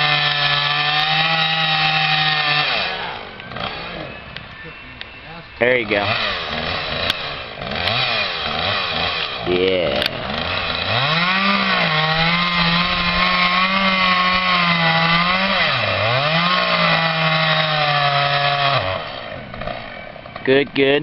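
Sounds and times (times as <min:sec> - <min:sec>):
chainsaw cutting wood: 0:00.0 - 0:04.6, 0:05.6 - 0:20.6.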